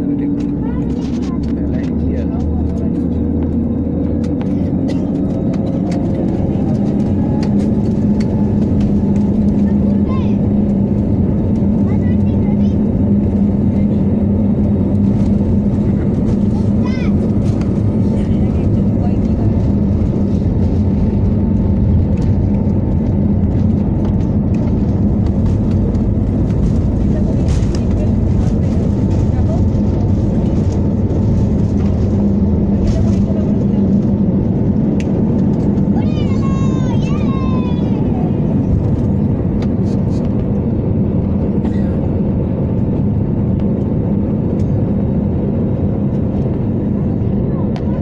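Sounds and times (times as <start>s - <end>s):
vehicle interior rumble: 0.0s - 48.0s.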